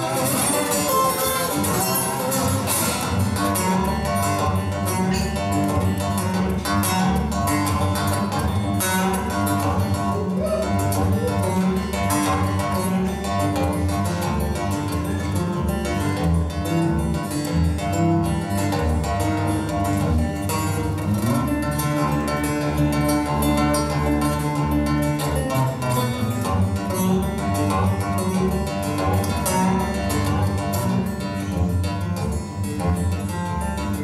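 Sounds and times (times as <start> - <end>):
fingerpicked acoustic guitar: 0.0 - 34.0.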